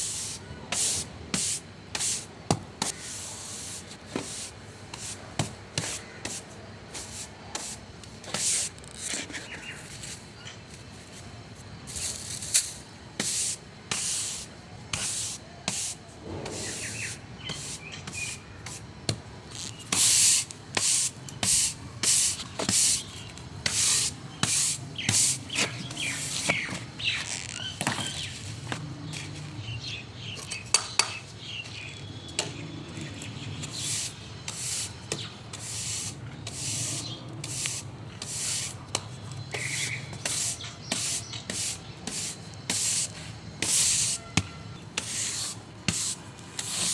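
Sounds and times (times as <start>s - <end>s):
broom sweeping a hard floor: 0.0s - 10.2s, 11.0s - 18.8s, 19.6s - 27.2s, 33.6s - 38.9s, 39.6s - 46.9s.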